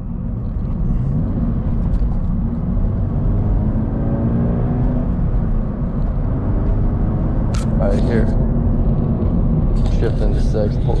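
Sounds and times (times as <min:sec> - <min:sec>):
car engine accelerating: 0:00.1 - 0:11.0.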